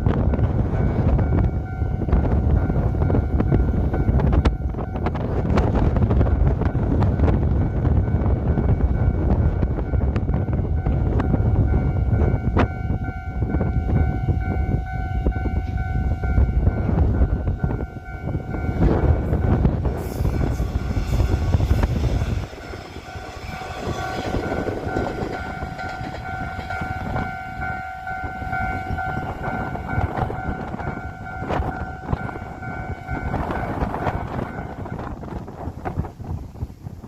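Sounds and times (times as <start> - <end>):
crossing warning bell: 0.0 - 35.7
electric train passing: 0.0 - 37.0.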